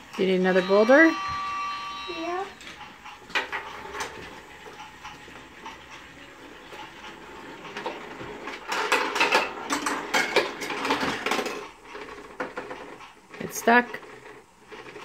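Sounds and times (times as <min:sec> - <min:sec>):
toy train clicking and whirring: 0:00.0 - 0:15.0.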